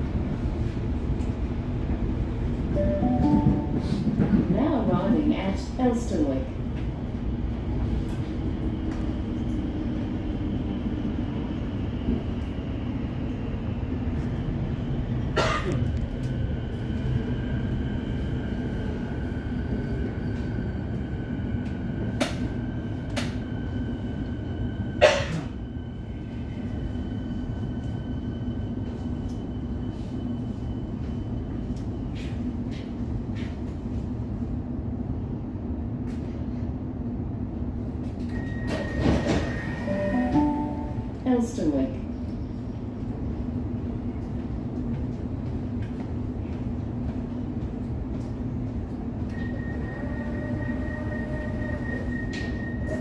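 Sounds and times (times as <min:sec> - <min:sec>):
electric train running hum: 0:00.0 - 0:53.0.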